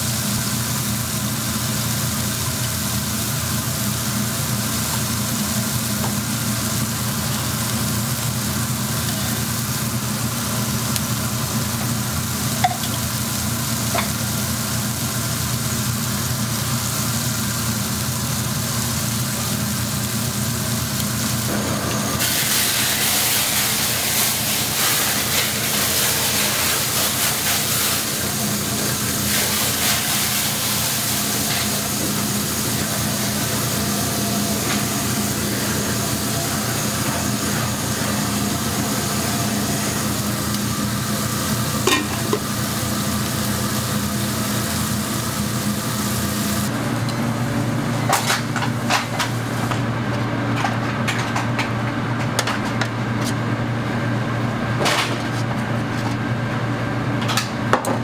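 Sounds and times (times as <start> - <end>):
food sizzling on a griddle: 0.0 - 46.8, 48.0 - 49.7.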